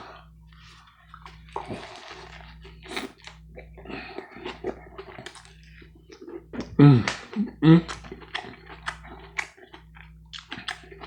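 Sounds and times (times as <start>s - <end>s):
biting and chewing sandwich: 0.0s - 11.0s.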